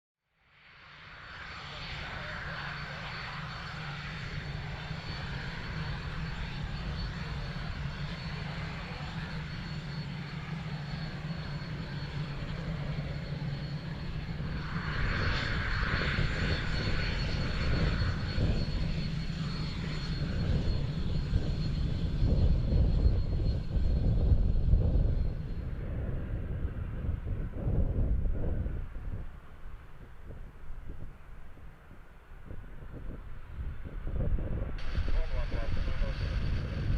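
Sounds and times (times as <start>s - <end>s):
jet engines whining and rumbling: 0.6s - 36.9s.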